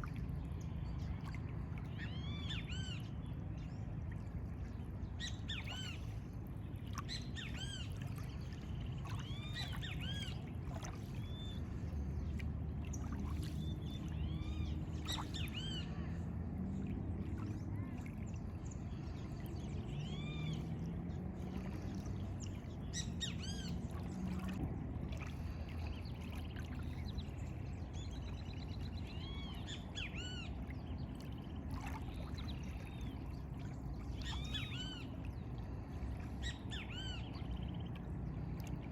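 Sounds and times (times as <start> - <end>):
low outdoor rumble: 0.0 - 38.9.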